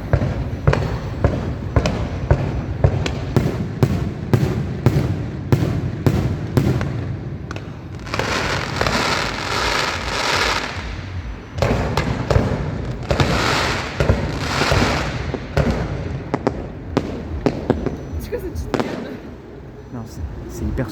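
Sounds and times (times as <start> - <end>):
dense crackling hiss: 0.0 - 20.9
firework bangs: 0.0 - 20.9.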